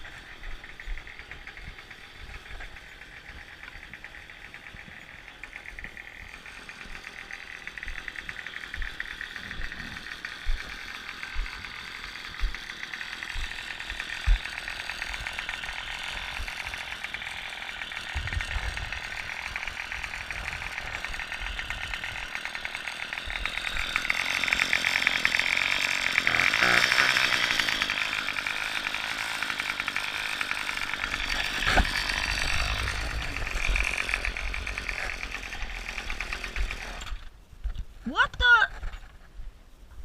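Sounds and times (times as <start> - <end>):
small gasoline engine running: 0.0 - 37.4.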